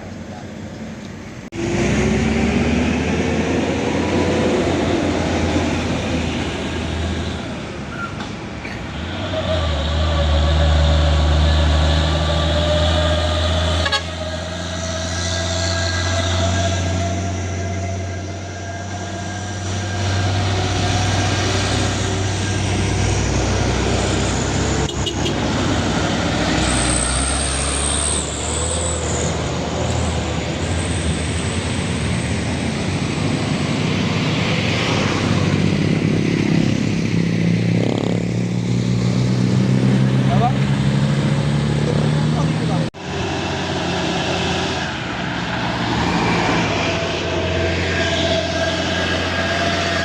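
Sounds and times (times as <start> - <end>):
truck engines under load: 0.0 - 50.0.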